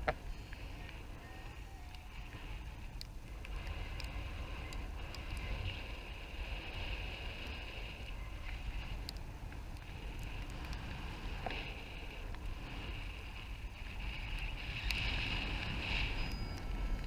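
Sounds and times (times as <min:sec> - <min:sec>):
steady hiss: 0:00.0 - 0:17.0
wind rumbling on microphone: 0:00.0 - 0:17.0
light ticks: 0:01.8 - 0:17.0.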